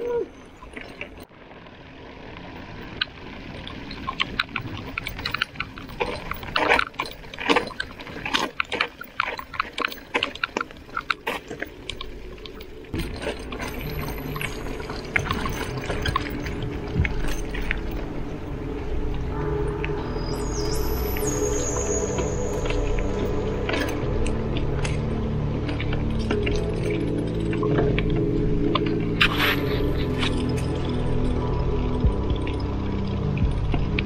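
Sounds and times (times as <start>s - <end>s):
bike rattling over stones: 0.4s - 19.4s, 20.0s - 34.0s
tyres crunching on gravel: 0.4s - 34.0s.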